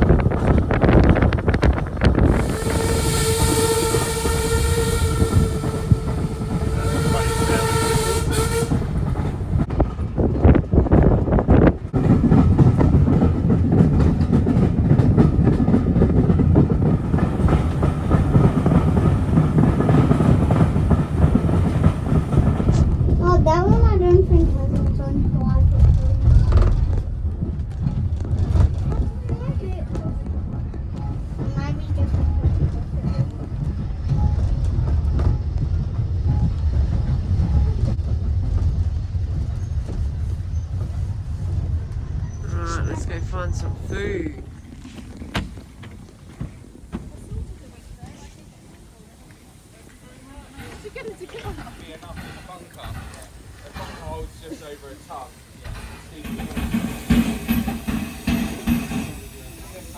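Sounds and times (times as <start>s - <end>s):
train wheels clattering over rails: 0.0s - 59.9s.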